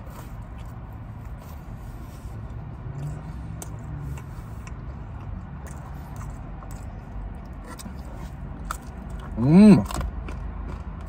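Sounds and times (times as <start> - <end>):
low hum inside car: 0.0 - 11.0
person chewing food: 0.0 - 11.0.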